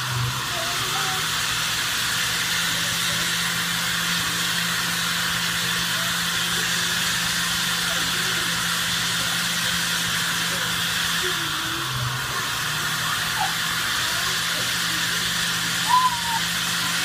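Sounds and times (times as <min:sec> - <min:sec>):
low blower hum: 0:00.0 - 0:17.0.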